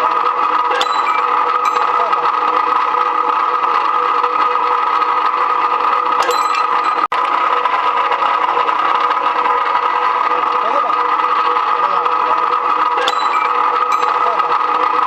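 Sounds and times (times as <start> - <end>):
rebar cutting machine humming: 0.0 - 15.0.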